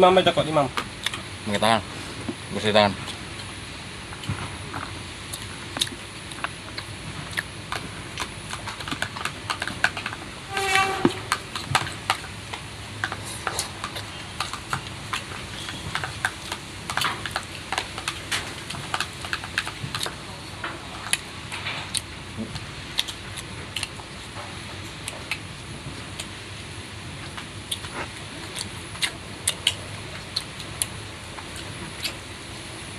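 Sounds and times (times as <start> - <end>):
wet chewing: 4.1 - 32.4.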